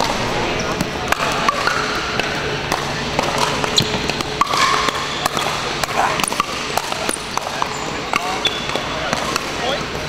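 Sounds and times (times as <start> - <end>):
echoing sports hall background: 0.0 - 10.0.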